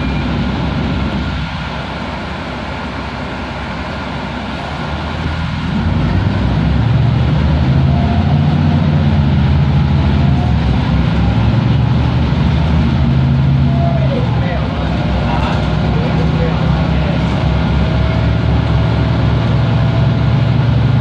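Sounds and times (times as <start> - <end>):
bus diesel engine drone: 0.0 - 21.0
road noise: 0.0 - 21.0.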